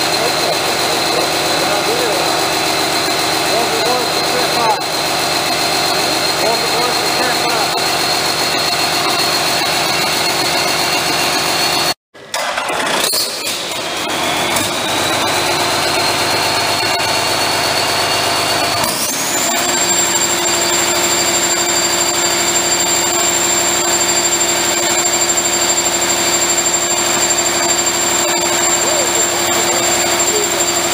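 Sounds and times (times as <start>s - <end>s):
high whine: 0.0s - 12.0s, 14.2s - 30.9s
diesel engine running: 0.0s - 30.9s.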